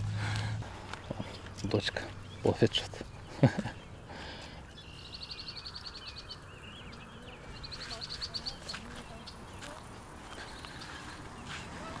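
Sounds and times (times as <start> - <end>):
bird chirps: 0.9 - 12.0
songbird trilling: 1.0 - 4.0, 4.7 - 11.7.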